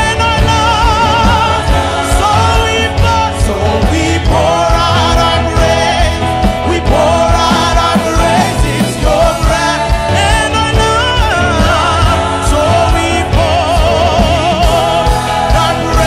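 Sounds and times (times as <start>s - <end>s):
band accompaniment with low beat: 0.0s - 16.0s
women singing together: 0.6s - 16.0s.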